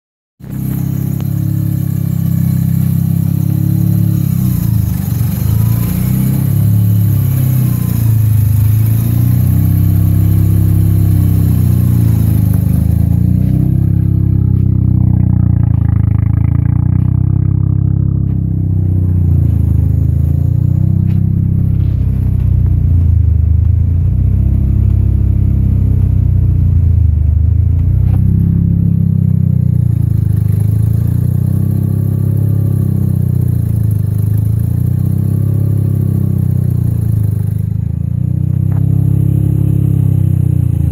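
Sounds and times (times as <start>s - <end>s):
rotary engine idling: 0.4s - 40.9s.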